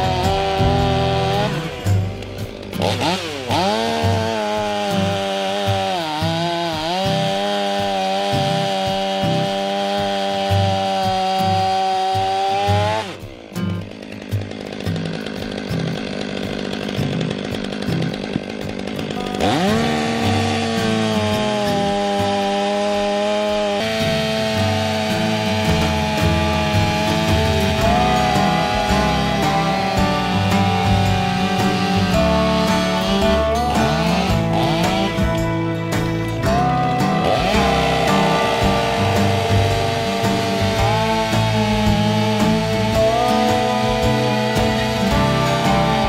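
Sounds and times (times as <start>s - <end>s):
chainsaw cutting wood: 0.0s - 46.0s.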